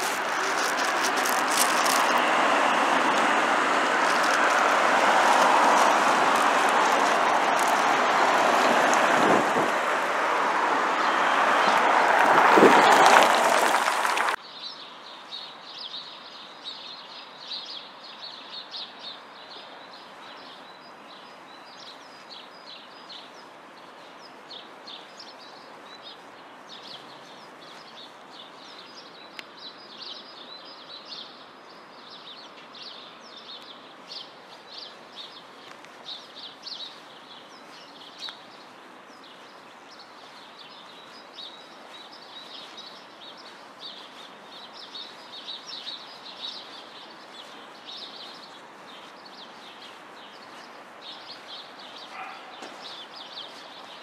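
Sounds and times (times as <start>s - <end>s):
small birds chirping: 0.0s - 9.8s, 12.8s - 54.0s.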